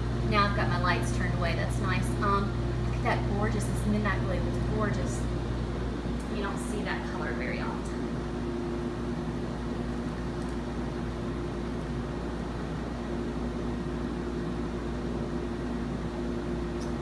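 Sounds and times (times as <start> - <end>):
bathtub pump motor humming: 0.0 - 17.0.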